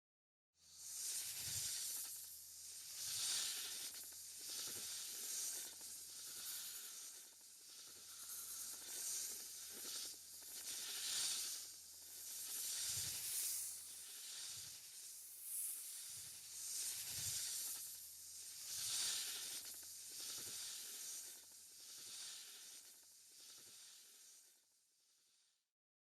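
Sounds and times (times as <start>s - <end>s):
snake hissing: 2.8s - 24.5s.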